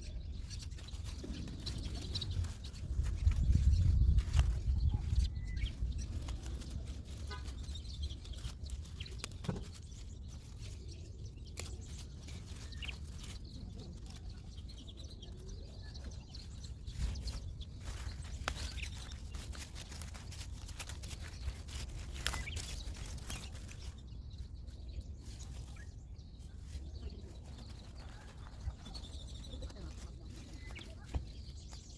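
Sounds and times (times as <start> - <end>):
faint bird chirps: 0.0 - 31.9.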